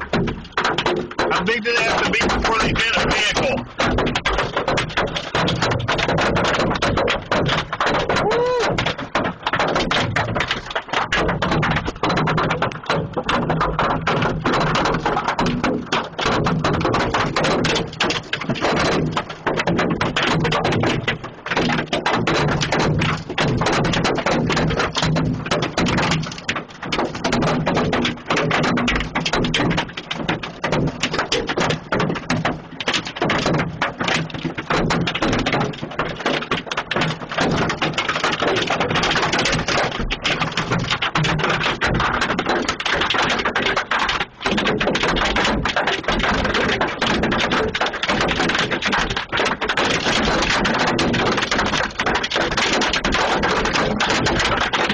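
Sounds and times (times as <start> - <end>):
hailstones clattering: 0.0 - 54.9.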